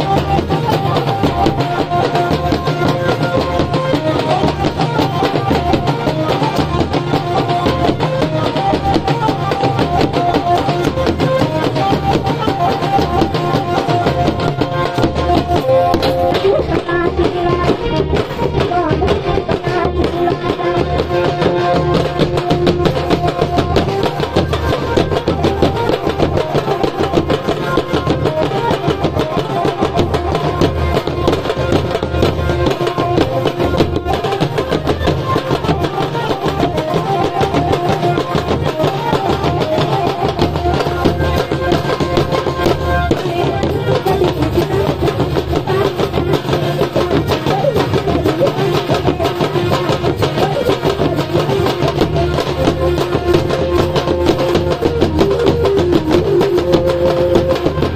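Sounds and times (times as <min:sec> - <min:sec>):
fast drum beat: 0:00.0 - 0:57.9
held melody: 0:00.0 - 0:57.9.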